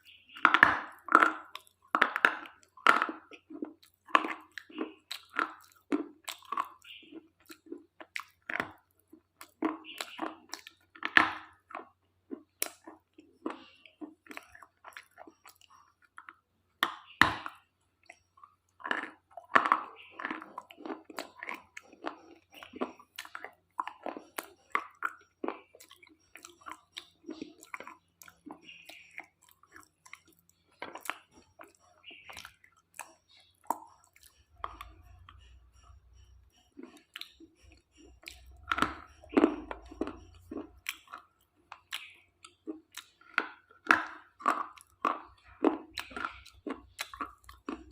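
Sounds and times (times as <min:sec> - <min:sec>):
crunching and chewing slate: 0:00.0 - 0:47.9.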